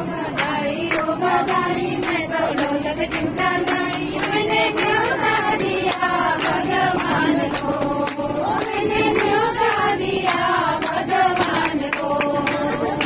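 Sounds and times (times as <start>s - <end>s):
women singing together: 0.0s - 13.0s
hand claps: 0.2s - 13.0s.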